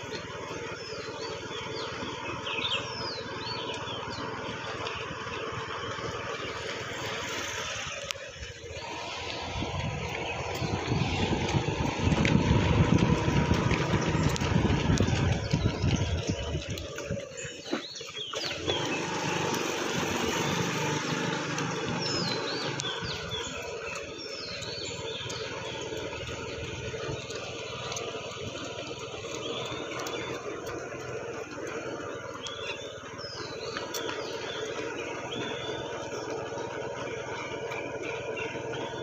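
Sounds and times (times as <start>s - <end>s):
birds chirping: 0.0s - 39.0s
road noise: 0.0s - 39.0s
vehicle engine running: 0.0s - 39.0s.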